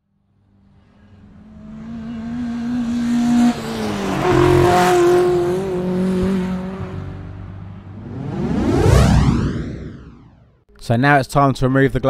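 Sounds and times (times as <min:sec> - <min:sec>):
car engine: 0:00.4 - 0:10.5.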